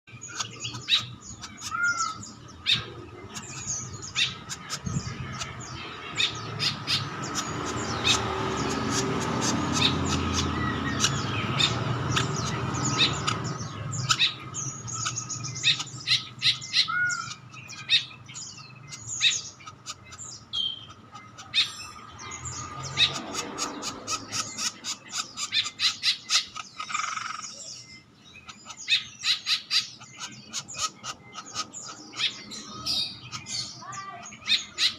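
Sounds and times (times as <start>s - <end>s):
woodpecker chirps and squawks: 0.1s - 34.9s.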